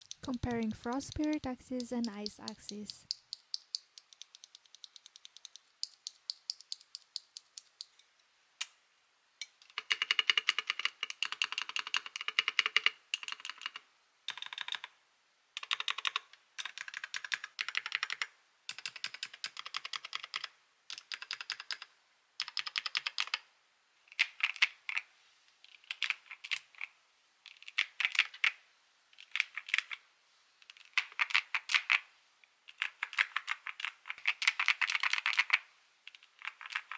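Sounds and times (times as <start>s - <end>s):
mechanical keyboard typing: 0.0s - 8.0s, 9.6s - 14.9s, 15.6s - 23.4s, 24.1s - 25.1s, 25.7s - 26.9s, 27.5s - 28.6s, 29.2s - 30.0s, 30.6s - 32.0s, 32.7s - 36.9s.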